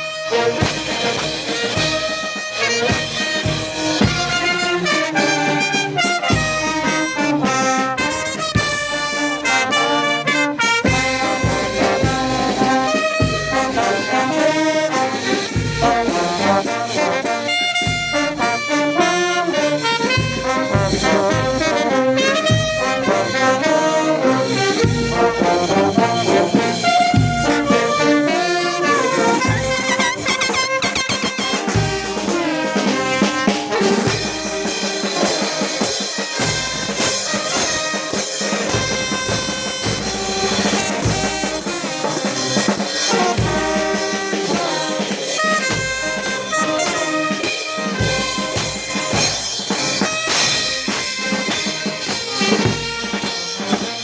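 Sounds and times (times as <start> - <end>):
brass band playing: 0.0 - 54.0
drum beat: 0.0 - 54.0
trumpets playing melody: 0.0 - 54.0.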